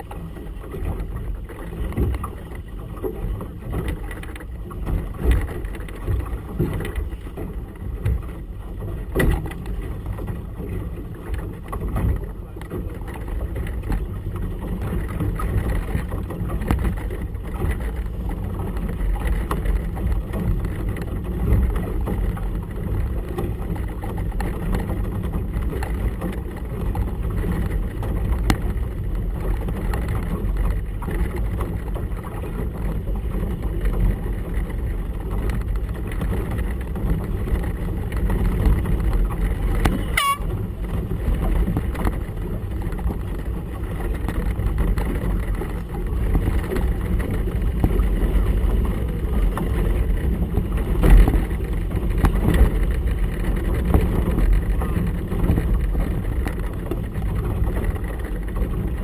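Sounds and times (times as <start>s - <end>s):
water slapping boat hull: 0.0s - 59.0s
wind buffeting microphone: 0.0s - 59.0s.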